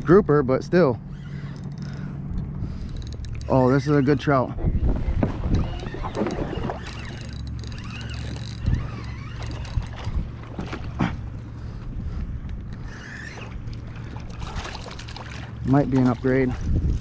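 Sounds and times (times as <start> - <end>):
wind buffeting microphone: 1.0 - 17.0.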